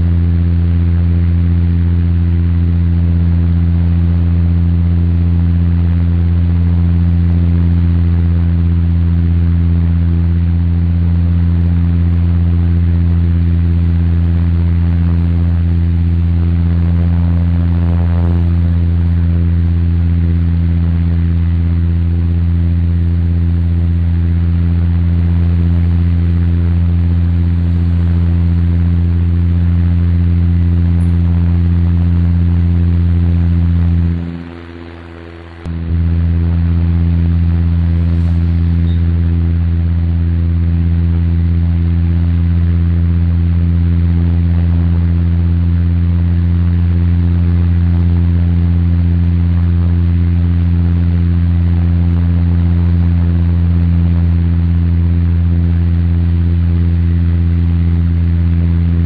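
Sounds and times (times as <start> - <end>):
airliner engines droning in cabin: 0.0 - 59.0
steady hum: 0.0 - 59.0.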